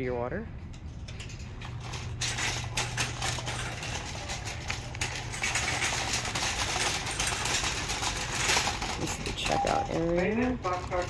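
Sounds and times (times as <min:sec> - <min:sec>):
shopping cart rattling on tiles: 0:00.9 - 0:11.0.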